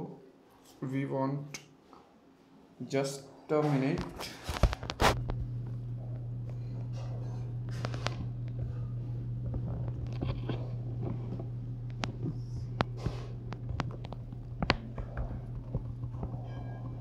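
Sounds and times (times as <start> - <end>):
ceiling fan humming: 0.0 - 17.0.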